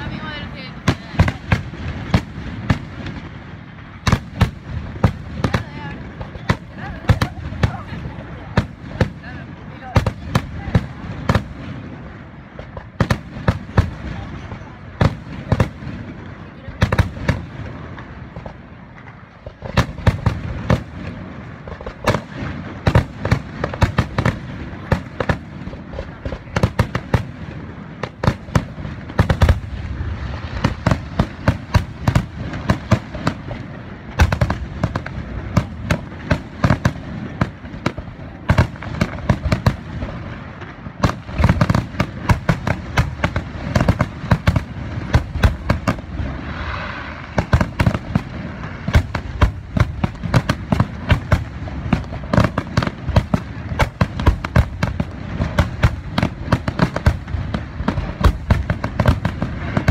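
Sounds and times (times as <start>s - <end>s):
firework crackling: 0.0s - 59.9s.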